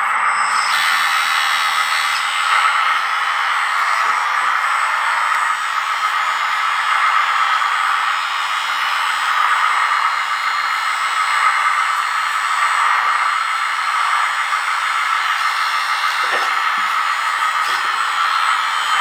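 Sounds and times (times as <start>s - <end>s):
small hydraulic pump whining: 0.0s - 19.0s.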